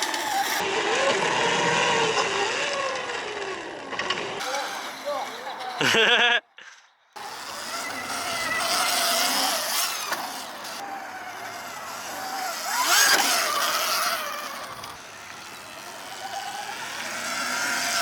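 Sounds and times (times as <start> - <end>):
dirt bikes riding: 0.0 - 18.0.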